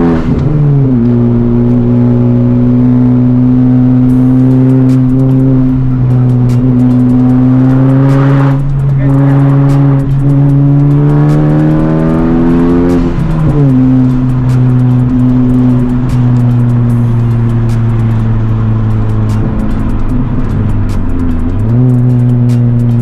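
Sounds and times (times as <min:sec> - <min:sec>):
turbocharged car engine revving: 0:00.0 - 0:23.0.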